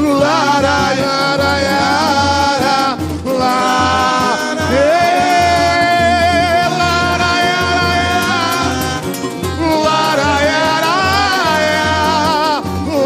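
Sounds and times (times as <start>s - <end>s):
person singing live: 0.0s - 13.0s.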